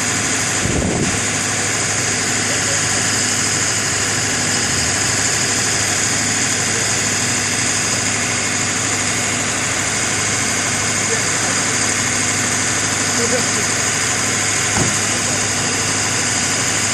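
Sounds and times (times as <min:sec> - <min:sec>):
vehicle engine idling: 0:00.0 - 0:16.9.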